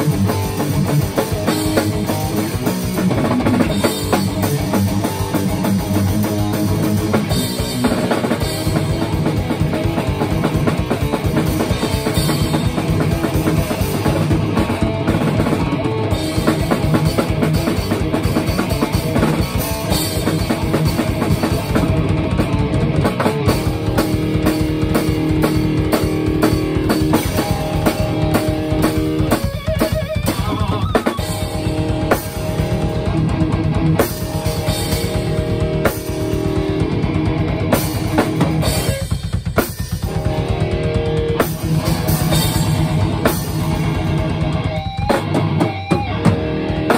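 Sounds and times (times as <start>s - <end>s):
electric guitar riffs: 0.0s - 46.9s
heavy rock song: 0.0s - 46.9s
rapid bass drum pulse: 0.0s - 46.9s.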